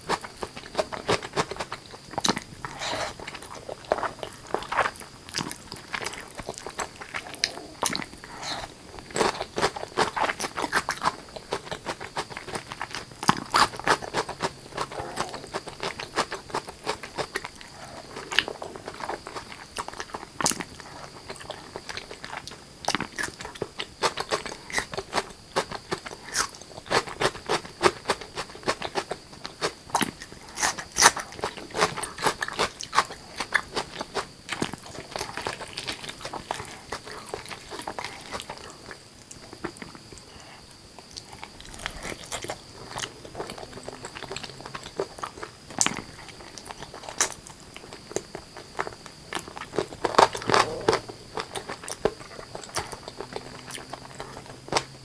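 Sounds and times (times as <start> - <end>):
wet chewing: 0.0 - 55.0
biting clicks: 0.1 - 40.3, 41.0 - 55.0.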